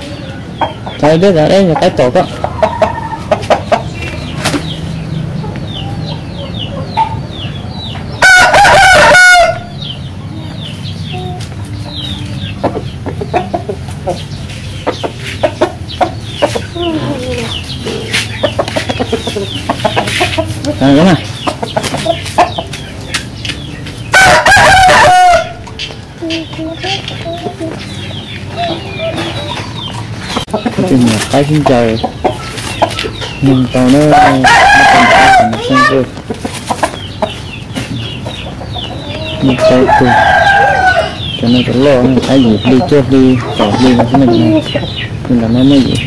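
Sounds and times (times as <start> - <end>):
roosters crowing loudly: 0.0 - 10.2, 12.3 - 26.2, 27.6 - 46.0
chickens clucking: 0.0 - 46.0.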